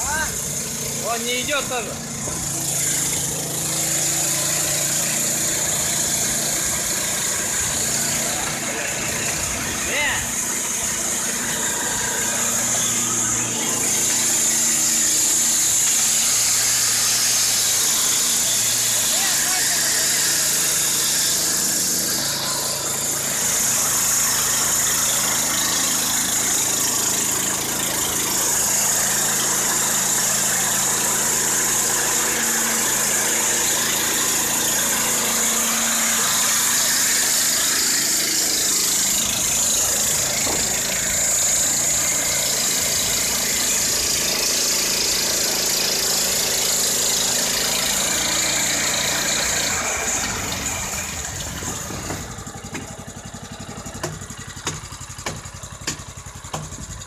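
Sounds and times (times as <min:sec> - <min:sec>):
band saw blade cutting log: 0:00.0 - 0:57.0
petrol engine running: 0:00.0 - 0:57.0.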